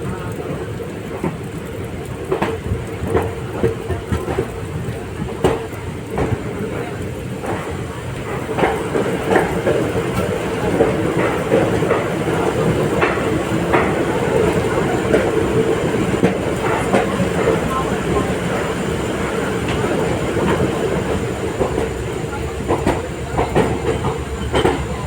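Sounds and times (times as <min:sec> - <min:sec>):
train rolling rumble: 0:00.0 - 0:25.0
train wheels clacking over rail joints: 0:00.0 - 0:25.0.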